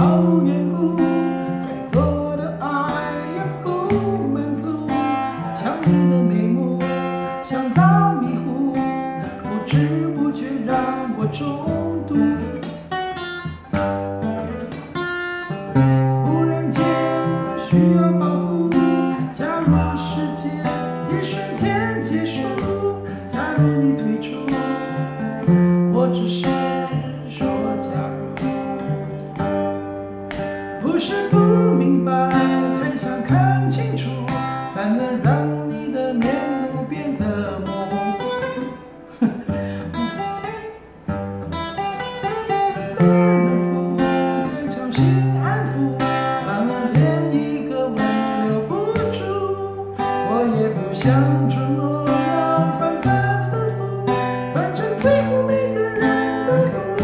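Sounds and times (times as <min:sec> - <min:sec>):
fingerstyle acoustic guitar: 0:00.0 - 0:57.0.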